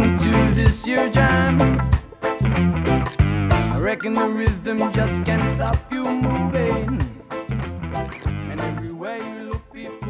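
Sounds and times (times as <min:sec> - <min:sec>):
reggae song: 0:00.0 - 0:10.0.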